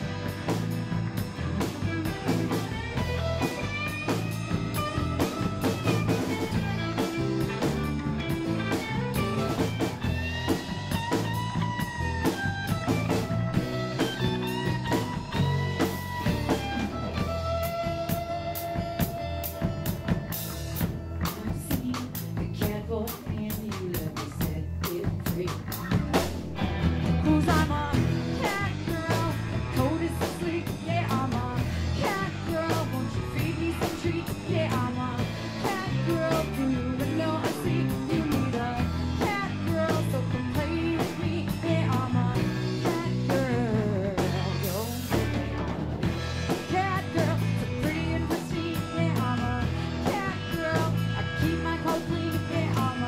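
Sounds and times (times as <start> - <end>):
drum kit beat: 0.0 - 53.0
electric bass: 0.0 - 53.0
electric guitar: 0.0 - 53.0.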